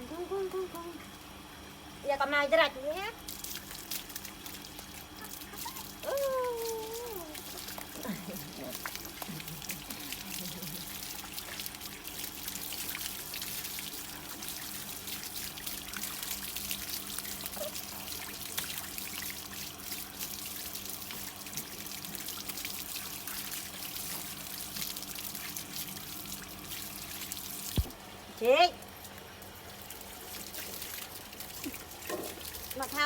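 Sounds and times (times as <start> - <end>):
running water pouring: 3.1 - 33.0.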